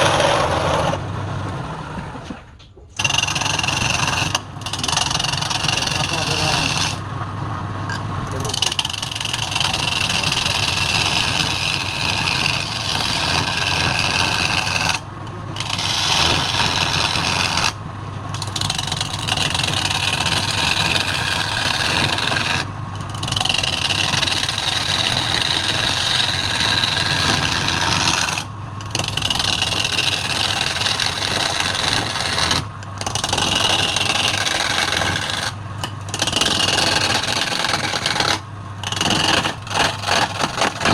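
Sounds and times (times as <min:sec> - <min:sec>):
wood lathe humming: 0:00.0 - 0:01.6, 0:03.0 - 0:07.1, 0:08.2 - 0:40.9
tool scraping spinning wood: 0:00.0 - 0:07.1, 0:07.9 - 0:40.9.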